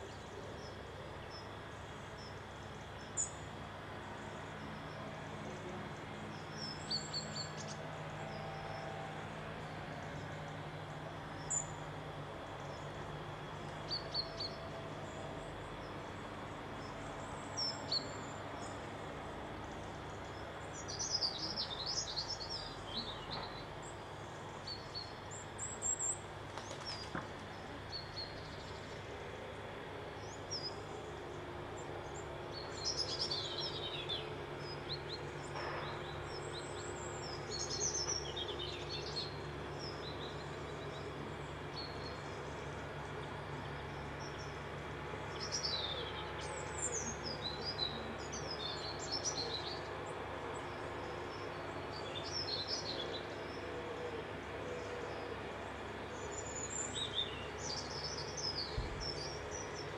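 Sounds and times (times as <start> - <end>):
songbirds chirping: 0.0 - 59.9
steady low hum: 0.0 - 59.9.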